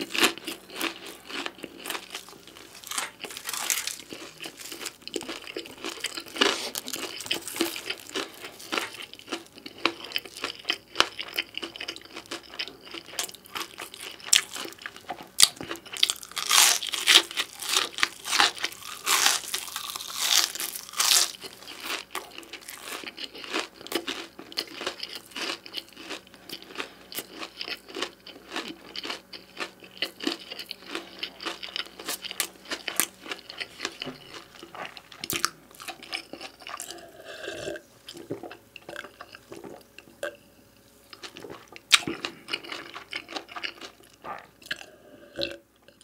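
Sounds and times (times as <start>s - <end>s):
wet mouth clicks and crunching: 0.0s - 37.0s
chewing pizza: 0.0s - 40.4s, 41.1s - 46.0s.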